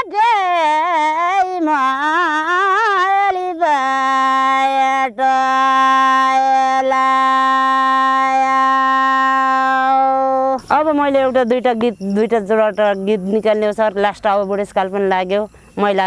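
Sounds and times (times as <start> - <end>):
woman singing folk song: 0.0 - 16.0.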